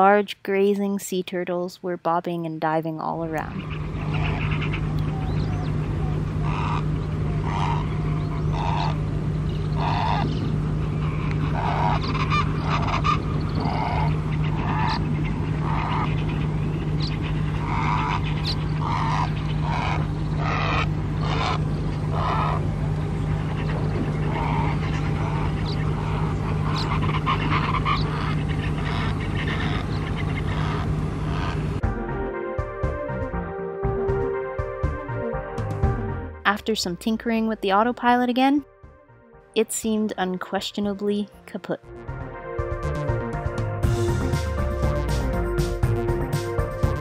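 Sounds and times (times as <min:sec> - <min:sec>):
low engine-like drone: 0:00.0 - 0:47.0.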